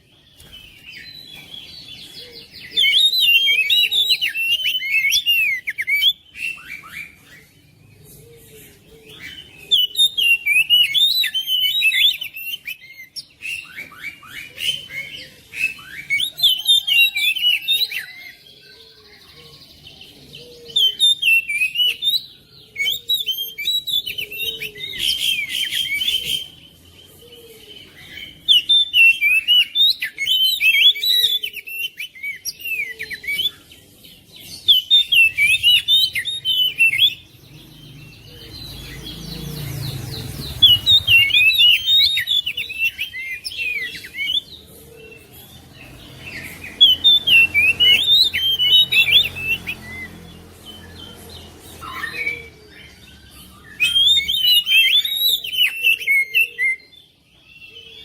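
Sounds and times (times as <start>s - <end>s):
bird chirping and whistling: 0.0s - 18.7s, 20.4s - 58.0s.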